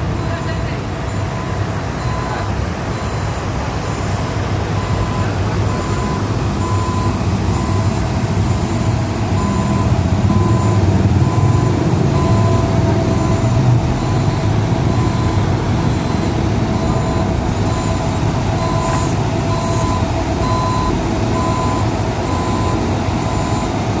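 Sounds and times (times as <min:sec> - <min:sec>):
heavy vehicle engine rumbling: 0:00.0 - 0:24.0
reversing alarm beeping: 0:00.0 - 0:24.0.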